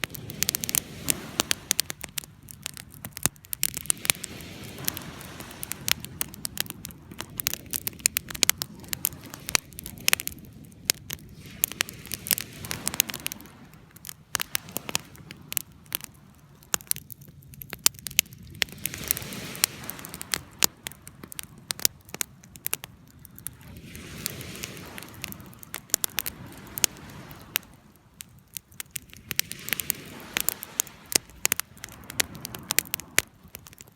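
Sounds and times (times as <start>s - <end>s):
low rush of flames: 0.0s - 33.9s
wood fire crackling and popping: 0.0s - 33.9s.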